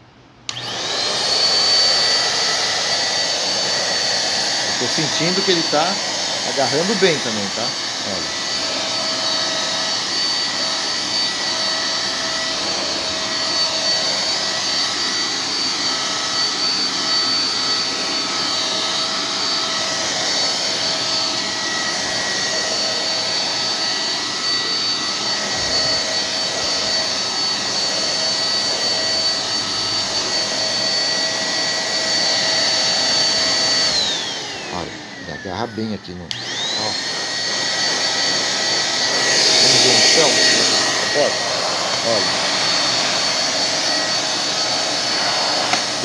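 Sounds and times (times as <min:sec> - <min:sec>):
vacuum cleaner running: 0:00.0 - 0:46.0.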